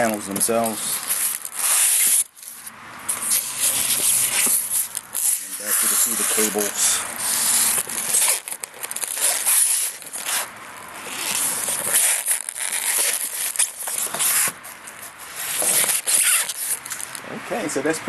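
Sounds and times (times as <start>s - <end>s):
cardboard and styrofoam rustling: 0.0s - 16.8s.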